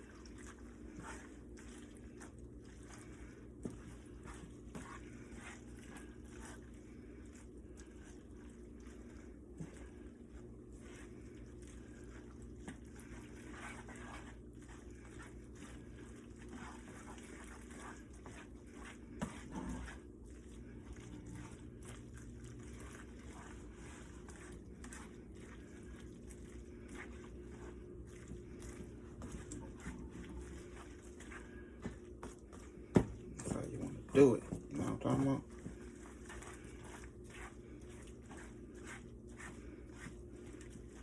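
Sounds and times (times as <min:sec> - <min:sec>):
steady low hum: 0:00.0 - 0:41.0
wet squishy sauce sounds: 0:00.0 - 0:41.0.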